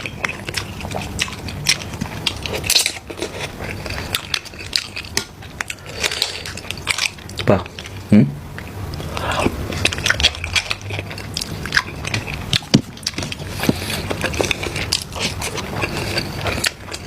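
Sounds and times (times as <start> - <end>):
biting and chewing: 0.0 - 8.0, 8.6 - 17.0.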